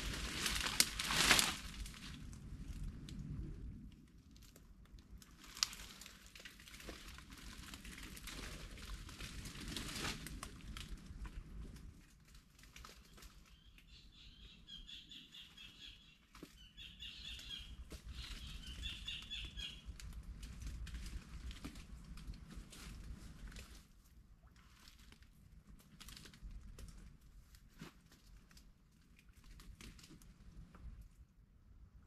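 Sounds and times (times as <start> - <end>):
leaves and branches rustling: 0.0 - 31.2.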